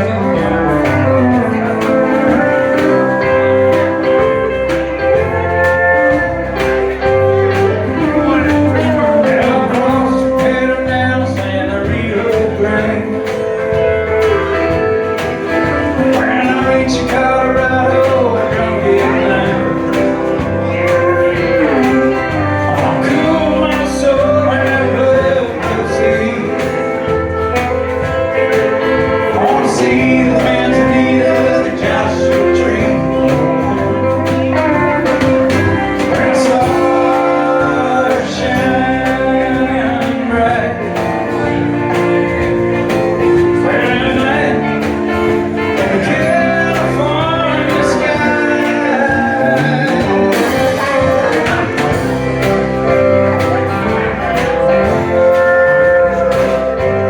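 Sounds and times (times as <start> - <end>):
country band playing: 0.0 - 57.0
sliding guitar notes: 0.0 - 57.0.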